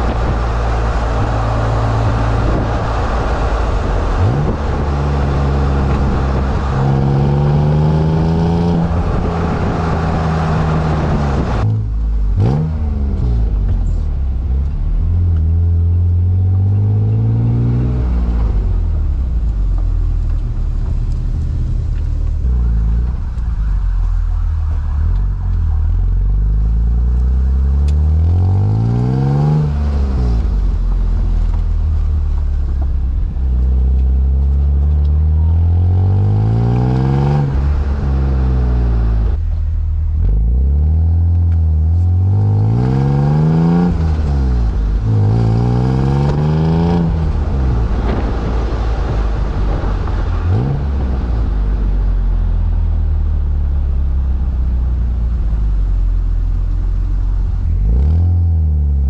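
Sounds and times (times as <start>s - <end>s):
car exhaust accelerating through gears: 0.0s - 59.0s.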